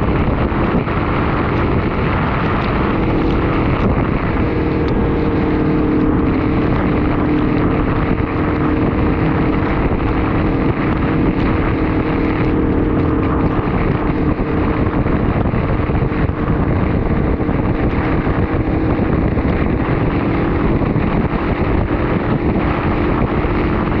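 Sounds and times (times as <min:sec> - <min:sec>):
motorcycle engine cruising: 0:00.0 - 0:24.0
wind rushing over microphone: 0:00.0 - 0:24.0.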